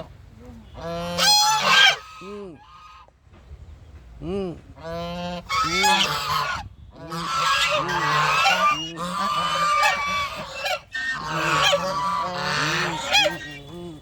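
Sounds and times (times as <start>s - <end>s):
ducks honking: 0.7s - 3.1s, 4.8s - 14.0s.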